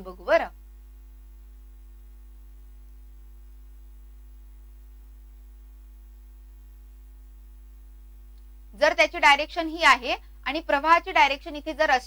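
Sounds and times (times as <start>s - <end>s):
faint hiss: 0.0s - 12.0s
low electrical hum: 0.0s - 12.0s.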